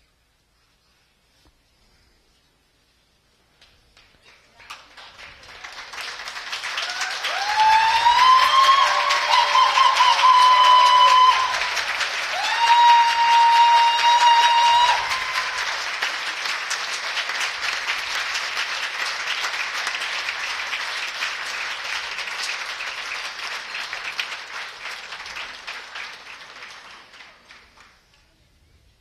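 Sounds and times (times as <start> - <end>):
audience applauding: 4.0 - 28.3.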